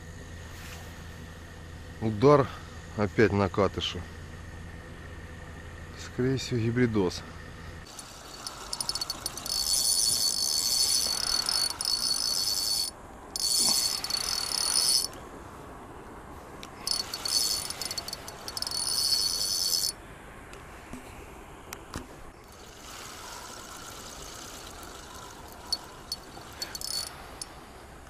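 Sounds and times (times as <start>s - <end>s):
crickets trilling: 1.3s - 15.8s, 16.6s - 20.3s, 22.4s - 28.0s.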